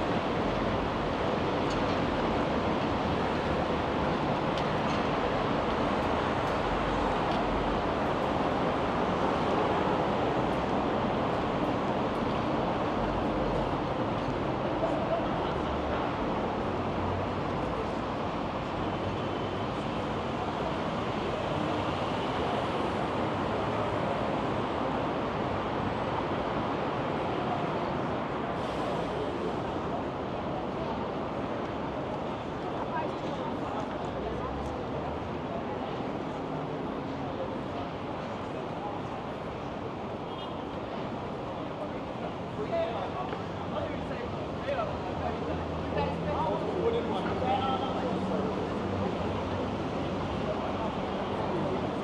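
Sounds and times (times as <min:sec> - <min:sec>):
street ambience: 0:00.0 - 0:52.0.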